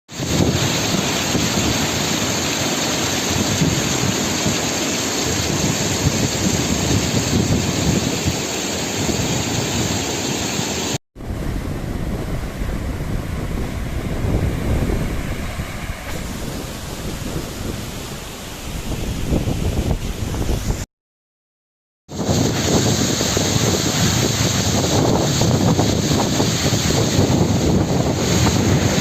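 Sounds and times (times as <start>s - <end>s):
waterfall rushing: 0.1s - 20.4s, 22.1s - 29.0s.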